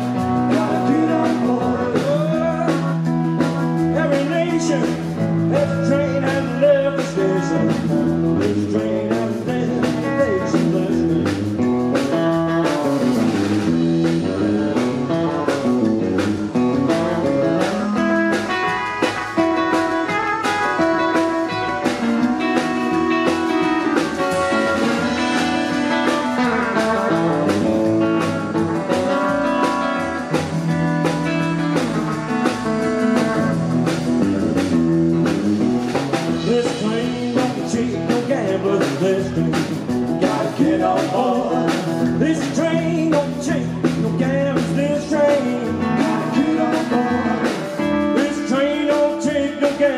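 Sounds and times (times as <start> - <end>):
drum beat: 0.0 - 49.9
lead electric guitar: 0.0 - 49.9
upright bass: 0.0 - 49.9.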